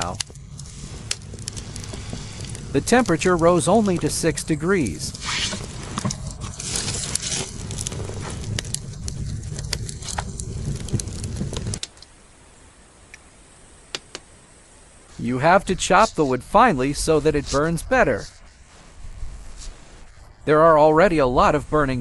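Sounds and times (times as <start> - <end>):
low steady rumble: 0.0 - 22.0
wood fire crackling: 0.0 - 22.0.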